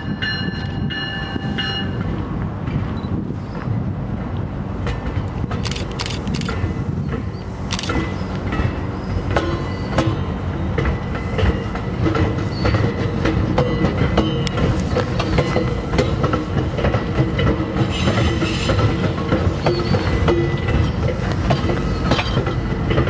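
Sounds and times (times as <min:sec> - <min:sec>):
train rumble: 0:00.0 - 0:23.0
wheels clicking over rail joints: 0:03.6 - 0:23.0.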